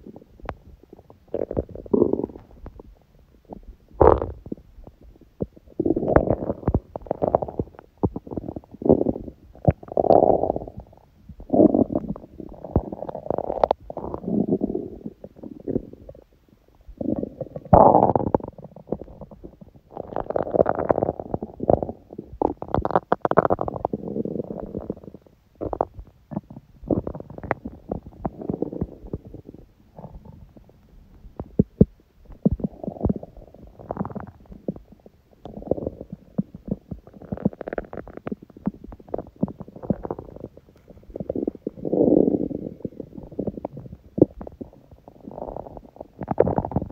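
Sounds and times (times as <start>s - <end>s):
stomach growling: 0.0s - 46.9s.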